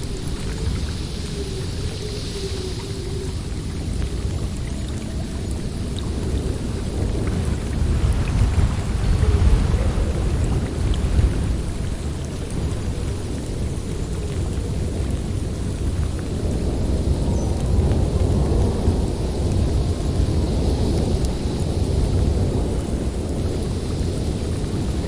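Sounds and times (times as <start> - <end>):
snowstorm wind gusting: 0.0 - 25.0.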